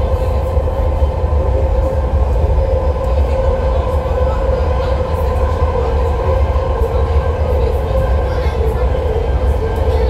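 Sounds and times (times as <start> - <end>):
train deep rumble: 0.0 - 10.0.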